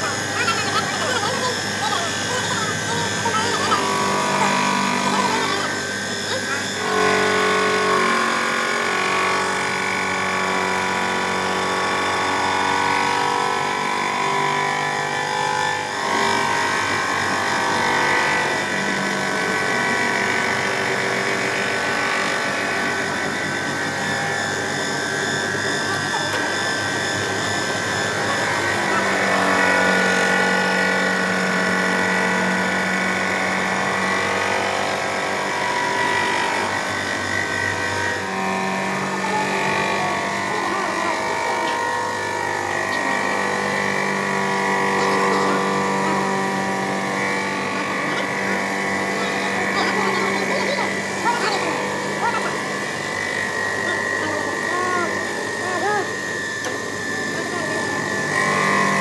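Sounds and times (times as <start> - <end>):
power tool motor whine: 0.0 - 59.0.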